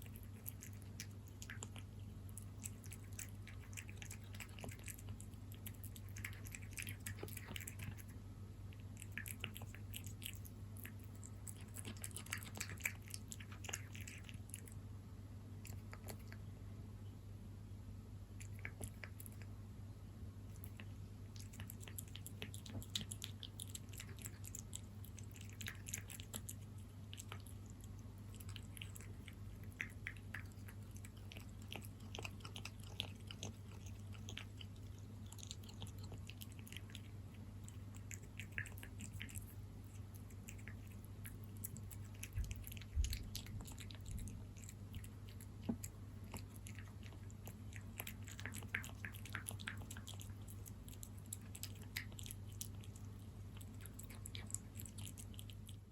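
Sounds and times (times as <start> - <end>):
cat chewing wet food: 0.0 - 16.5, 18.3 - 19.6, 20.3 - 55.9.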